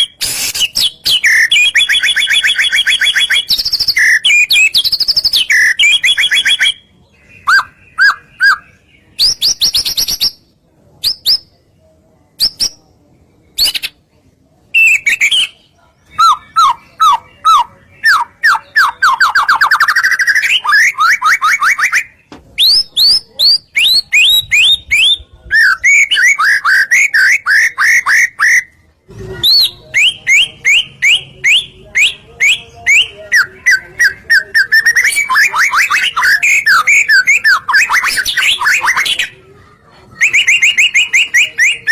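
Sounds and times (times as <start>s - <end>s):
bird singing rapid chirps: 0.0s - 10.4s, 14.8s - 28.7s, 29.4s - 39.4s.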